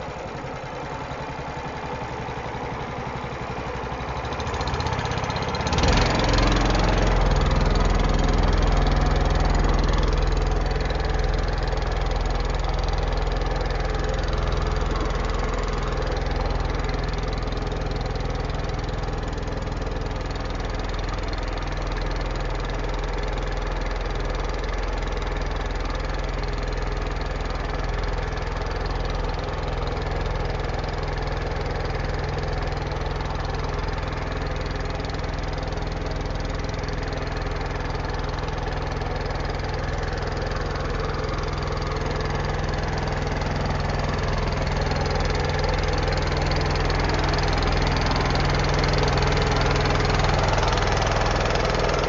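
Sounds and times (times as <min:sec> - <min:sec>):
small boat engine running: 0:00.0 - 0:52.0.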